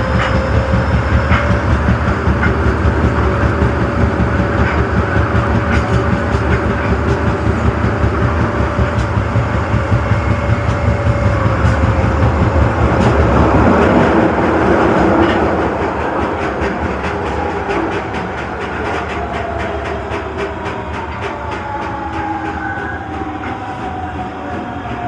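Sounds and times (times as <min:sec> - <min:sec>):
wheels clicking over rail joints: 0:00.0 - 0:24.1
subway train running noise: 0:00.0 - 0:25.0
train whine: 0:00.0 - 0:25.0.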